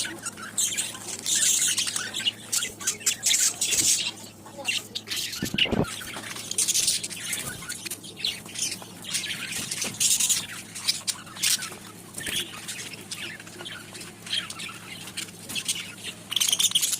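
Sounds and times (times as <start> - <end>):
parrots squawking and chattering: 0.0 - 16.9.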